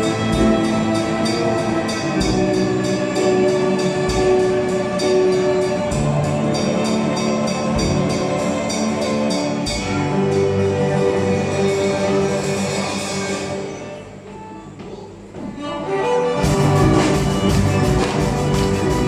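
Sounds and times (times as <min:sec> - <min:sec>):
small instrumental ensemble: 0:00.0 - 0:19.0.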